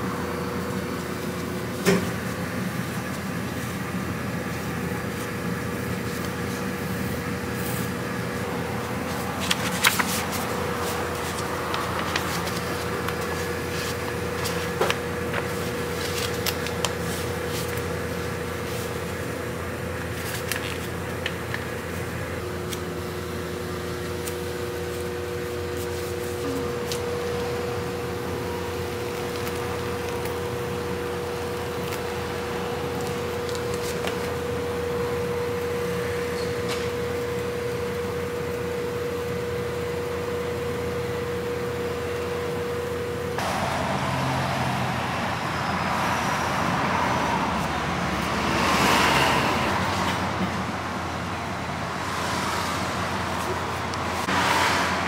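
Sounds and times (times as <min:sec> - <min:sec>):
electrical hum of machinery: 0:00.0 - 0:55.0.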